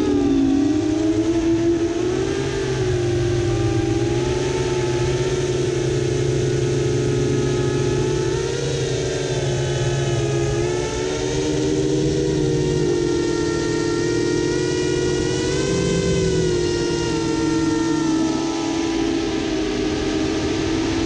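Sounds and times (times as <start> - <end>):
drone motors whining: 0.0 - 21.0
propeller wash rushing: 0.0 - 21.0.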